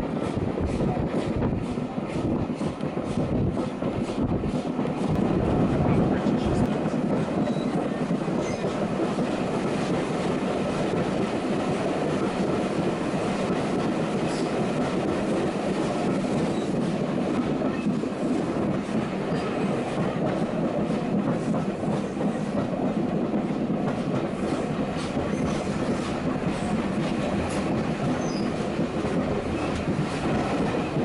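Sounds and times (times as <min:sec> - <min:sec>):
train carriage rumble: 0:00.0 - 0:31.0
wheels clattering on track: 0:00.1 - 0:31.0.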